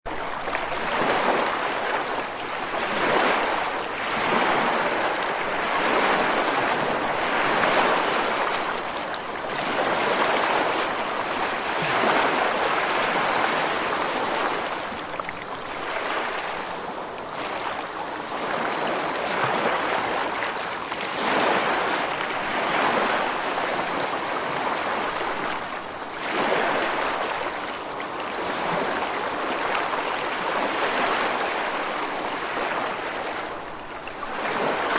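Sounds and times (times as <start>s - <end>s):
ocean waves washing ashore: 0.1s - 34.9s.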